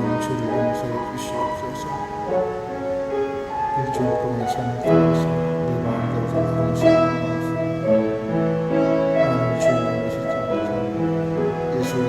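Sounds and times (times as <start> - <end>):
keyboard playing slow chords: 0.0 - 12.0.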